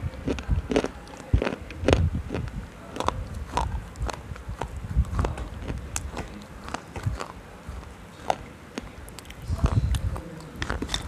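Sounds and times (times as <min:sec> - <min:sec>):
crunching and chewing: 0:00.1 - 0:11.0.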